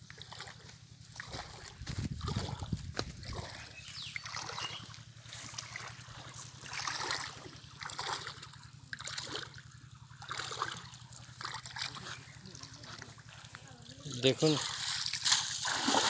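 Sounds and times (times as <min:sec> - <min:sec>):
water splashing around wading legs: 0:00.0 - 0:16.0.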